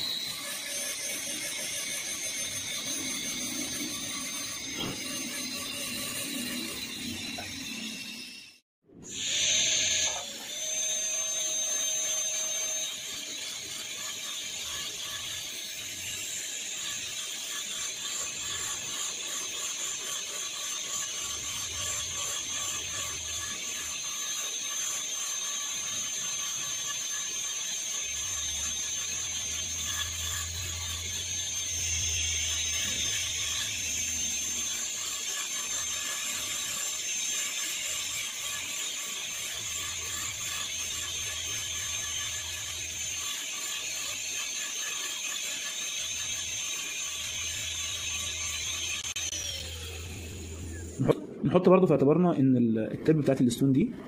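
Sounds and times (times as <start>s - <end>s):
dental drill whining: 0.0s - 51.2s.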